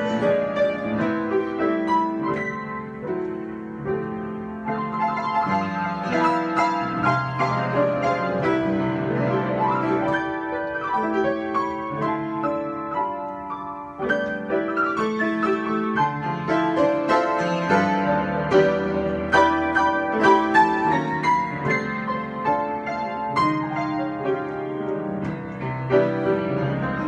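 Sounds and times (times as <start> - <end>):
solo piano improvisation: 0.0 - 27.0.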